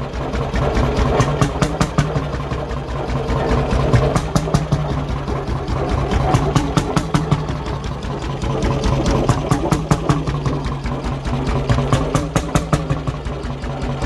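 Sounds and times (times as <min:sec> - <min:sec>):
engine knocking: 0:00.0 - 0:14.0
low engine hum: 0:00.0 - 0:14.0.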